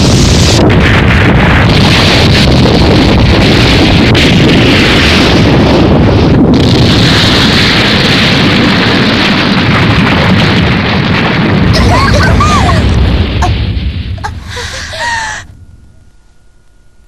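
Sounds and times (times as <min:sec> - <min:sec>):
explosion rushing blast: 0:00.0 - 0:15.8.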